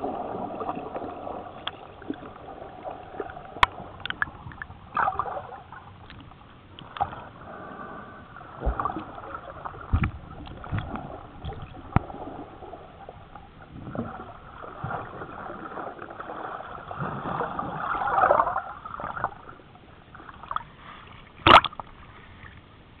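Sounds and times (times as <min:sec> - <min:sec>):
water churning underwater: 0:00.0 - 0:23.0.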